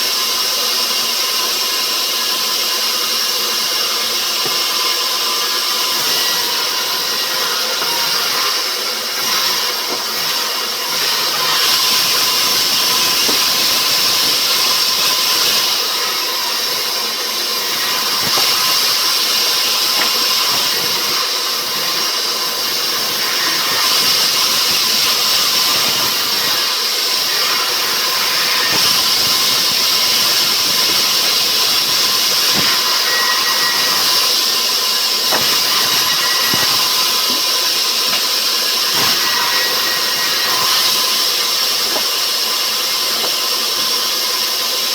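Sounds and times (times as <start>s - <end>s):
sawmill machinery cutting wood: 0.0s - 44.9s.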